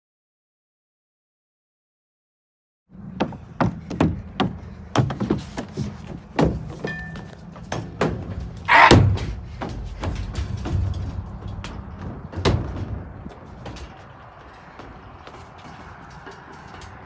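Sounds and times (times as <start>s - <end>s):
footsteps clanking on metal mesh: 3.2s - 17.0s.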